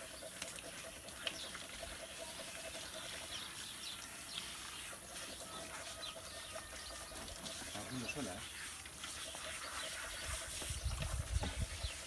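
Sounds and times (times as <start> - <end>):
hose water spraying: 0.0 - 12.0.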